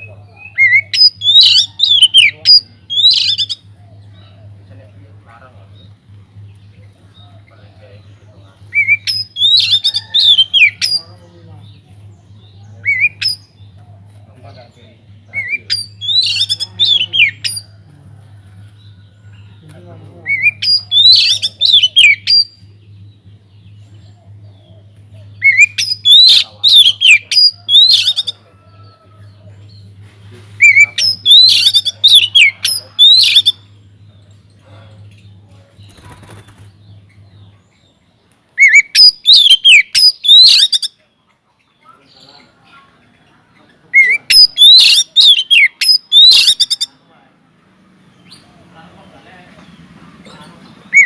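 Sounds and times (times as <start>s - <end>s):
bird singing high sweeping notes: 0.0s - 30.0s, 30.6s - 42.6s
faint low hum: 0.0s - 51.0s.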